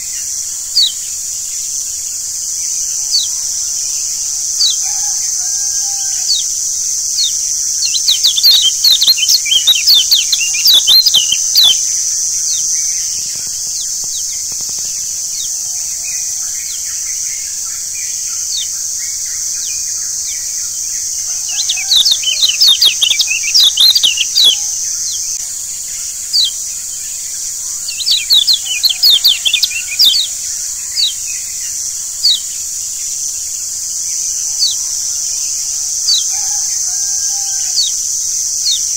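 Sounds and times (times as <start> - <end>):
bird chirping: 0.0 - 38.9
high-pitched hiss: 0.0 - 38.9.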